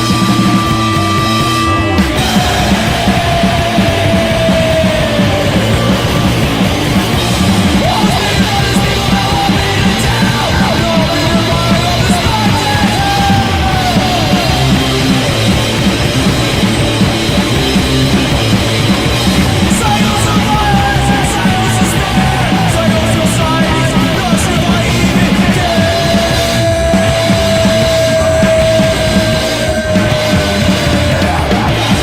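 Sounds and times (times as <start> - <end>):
punk rock band playing: 0.0 - 32.0.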